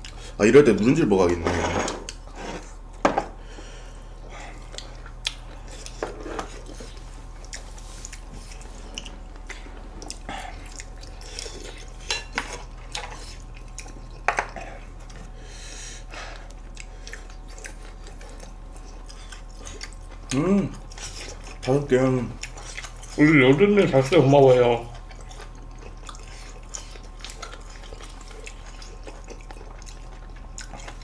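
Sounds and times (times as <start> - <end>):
steady low hum: 0.0 - 31.0
chewing and mouth noises: 4.2 - 31.0.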